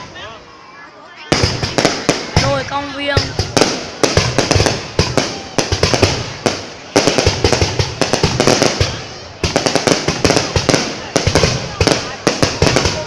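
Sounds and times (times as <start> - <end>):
fireworks bangs and crackling: 1.2 - 13.0.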